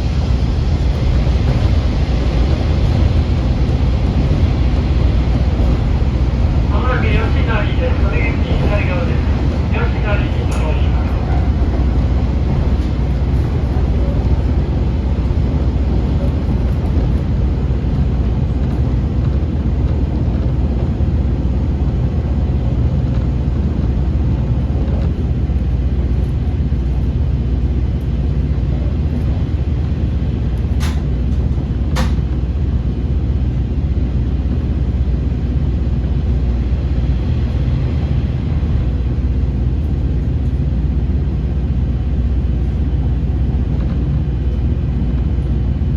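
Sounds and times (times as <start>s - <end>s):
diesel railcar rumbling: 0.0s - 45.9s.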